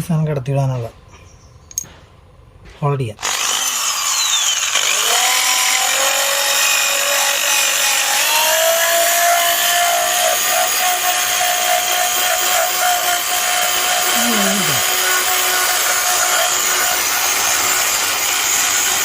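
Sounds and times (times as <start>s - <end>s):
electric drill boring through wood: 3.2s - 19.0s.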